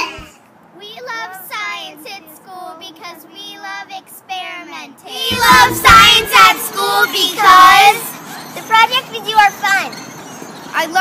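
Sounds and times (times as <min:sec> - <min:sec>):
young children's voices: 0:00.0 - 0:09.9.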